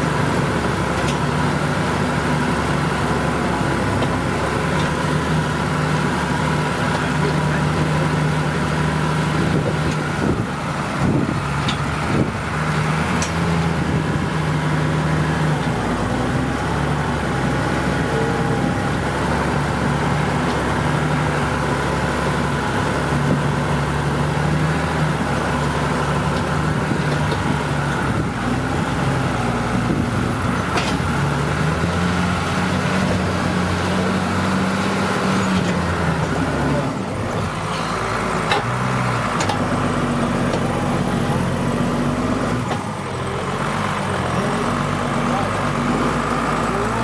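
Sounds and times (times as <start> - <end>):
tractor diesel engine working hard: 0.0 - 47.0.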